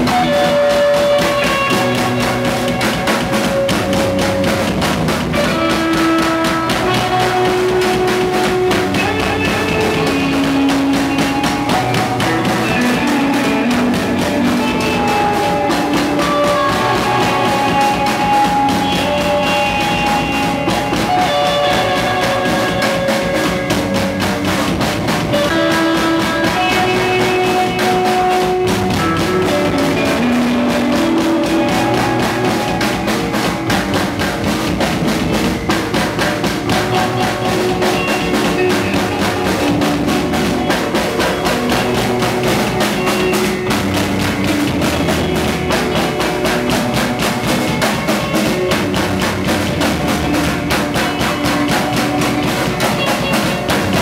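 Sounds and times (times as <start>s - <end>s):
drum kit with cymbals: 0.0s - 54.0s
electric guitar melody: 0.0s - 54.0s.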